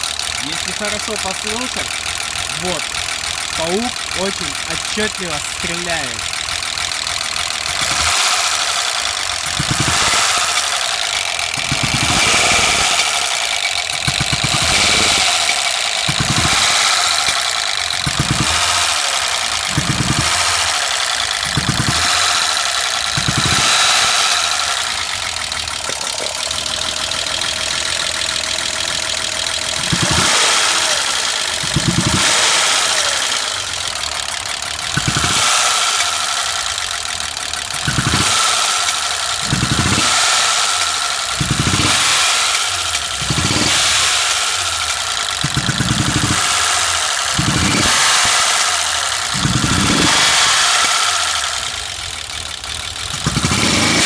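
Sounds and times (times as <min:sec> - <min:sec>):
car engine idling rough: 0:00.0 - 0:54.0
exhaust popping: 0:00.0 - 0:54.0.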